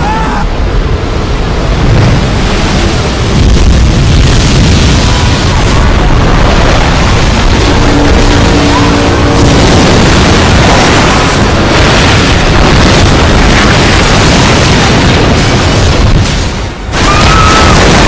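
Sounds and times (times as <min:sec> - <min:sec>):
wave breaking with rushing water: 0:00.0 - 0:18.0.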